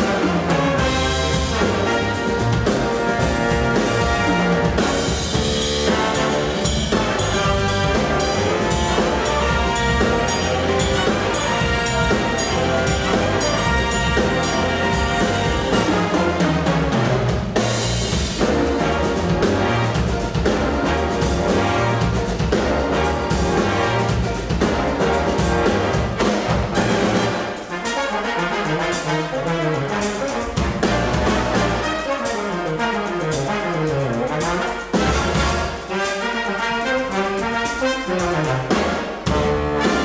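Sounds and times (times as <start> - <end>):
jazz-funk band playing: 0.0 - 40.0.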